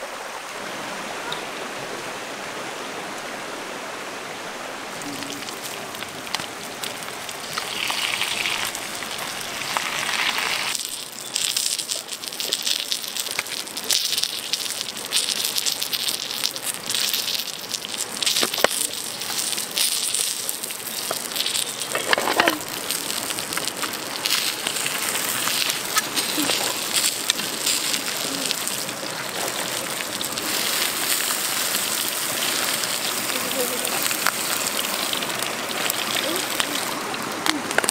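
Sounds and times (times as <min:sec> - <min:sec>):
steady hiss of grilling: 0:04.7 - 0:37.9
wood fire crackling: 0:04.7 - 0:37.9.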